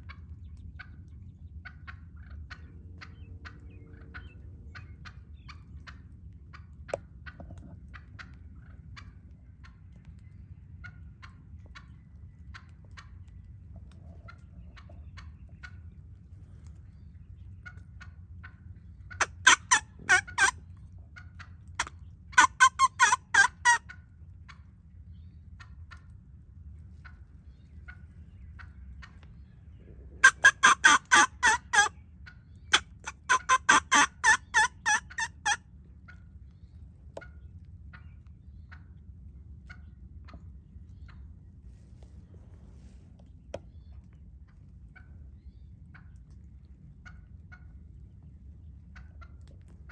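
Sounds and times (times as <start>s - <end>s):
wild turkey yelping: 0.0s - 24.7s, 25.6s - 26.2s, 26.9s - 42.1s, 43.6s - 49.9s.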